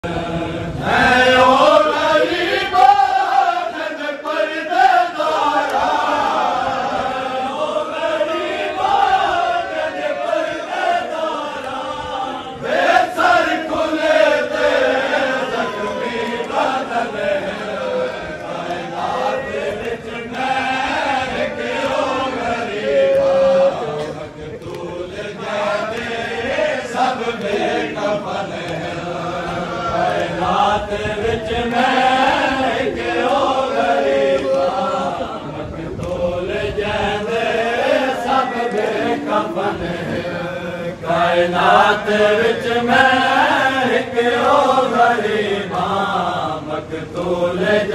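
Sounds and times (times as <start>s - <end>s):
men chanting a lament: 0.0s - 47.9s.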